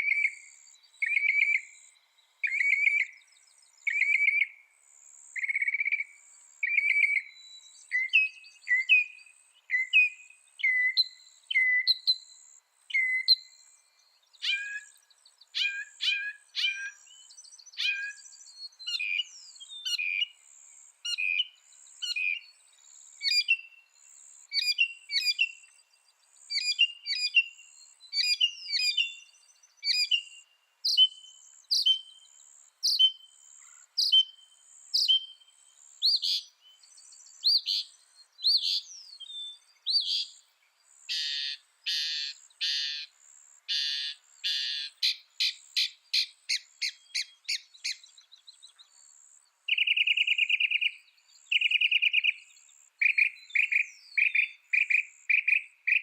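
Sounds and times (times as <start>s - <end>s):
mockingbird singing varied phrases: 0.0s - 3.2s, 3.8s - 4.6s, 5.4s - 12.3s, 12.9s - 20.5s, 21.1s - 25.8s, 26.4s - 56.0s.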